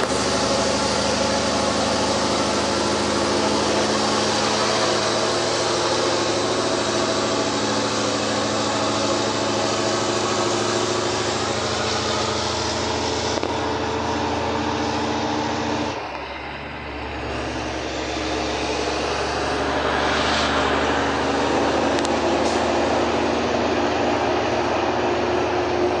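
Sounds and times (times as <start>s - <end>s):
truck diesel engine pulling uphill: 0.0s - 26.0s.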